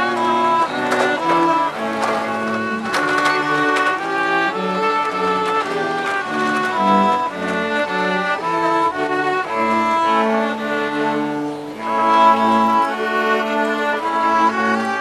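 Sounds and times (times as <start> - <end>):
cello bowing sustained notes: 0.0 - 15.0
violin bowing sustained notes: 0.0 - 15.0.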